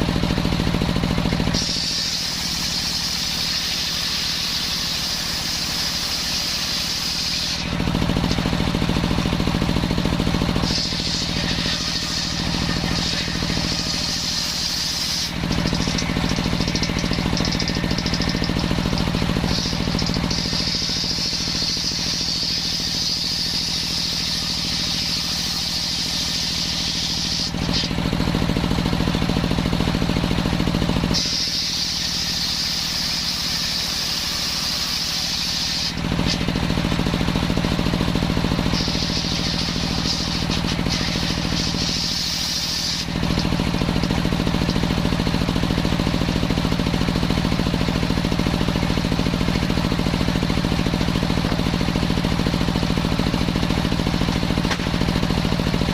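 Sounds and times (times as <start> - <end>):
saw engine humming: 0.0 - 55.9
circular saw blade cutting wood: 0.4 - 29.4, 30.2 - 55.9.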